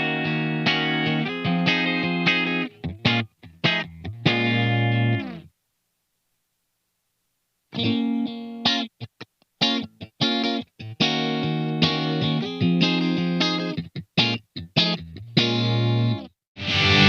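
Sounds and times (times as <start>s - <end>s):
distorted electric guitar riff: 0.0s - 5.5s, 7.8s - 17.0s.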